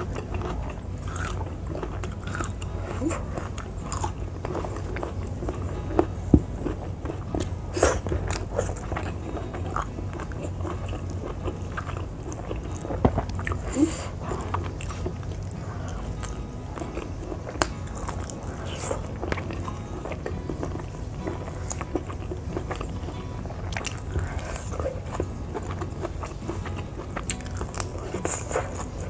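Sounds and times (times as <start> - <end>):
faint low hum: 0.0 - 29.0
person chewing crunchy vegetables: 0.0 - 29.0.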